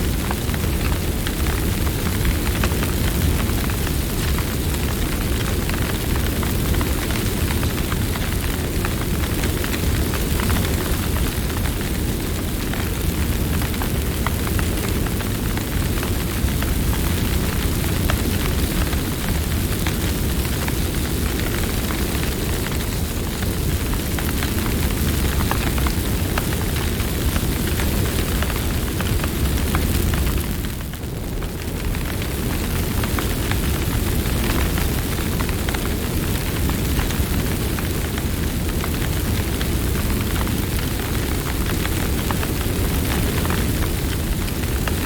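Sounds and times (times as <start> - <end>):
campfire crackling and popping: 0.0 - 45.0
low fire rumble: 0.0 - 45.0.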